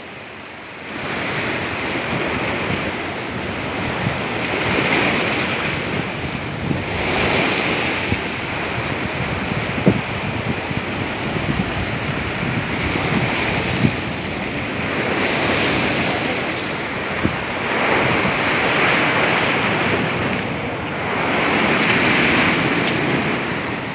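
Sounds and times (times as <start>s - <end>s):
wind buffeting microphone: 0.0s - 23.9s
surf breaking over rocks: 0.9s - 23.9s.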